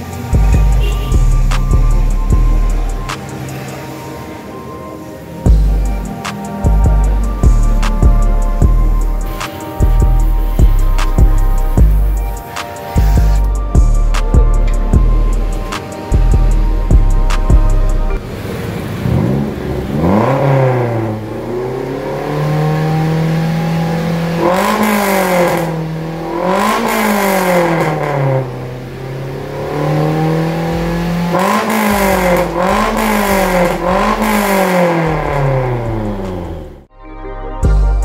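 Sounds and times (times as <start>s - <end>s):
engine revving with racing exhaust: 0.0s - 36.9s.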